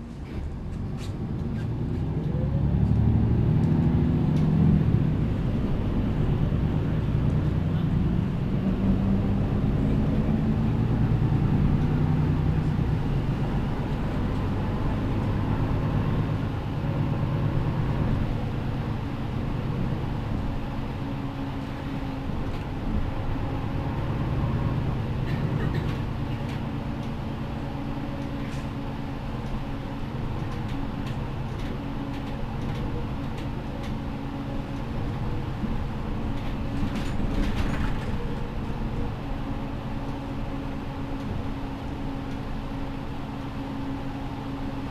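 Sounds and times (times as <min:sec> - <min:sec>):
bus engine running: 0:00.0 - 0:44.9
road noise: 0:00.0 - 0:44.9.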